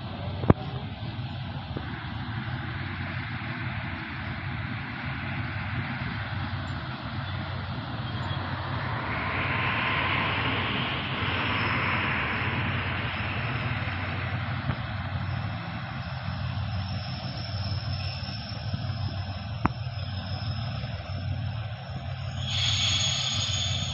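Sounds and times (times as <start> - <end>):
engine droning: 0.0 - 23.9
faint high steady whine: 0.0 - 23.9
broad rushing swell: 1.9 - 23.9.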